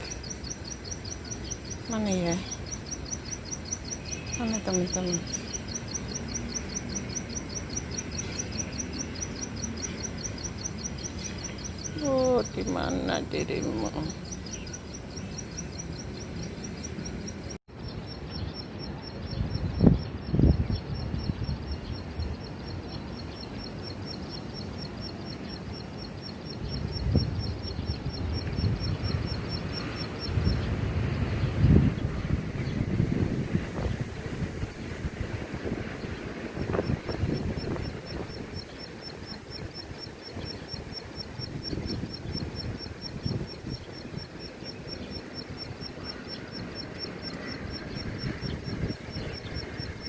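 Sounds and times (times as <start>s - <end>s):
high thin ticking call: 0.0s - 31.4s, 36.6s - 50.0s
bird chirping rapidly: 0.0s - 32.9s, 35.5s - 50.0s
wind rumble on microphone: 0.0s - 50.0s.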